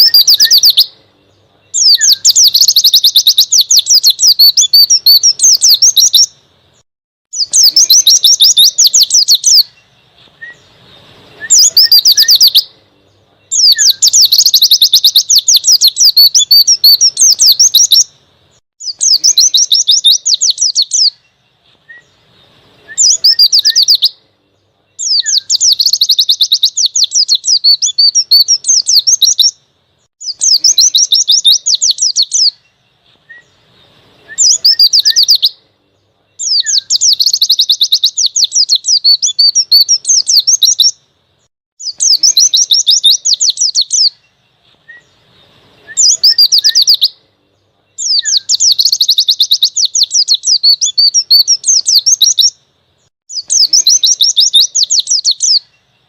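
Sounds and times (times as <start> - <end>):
bird twittering song: 0.0 - 56.0.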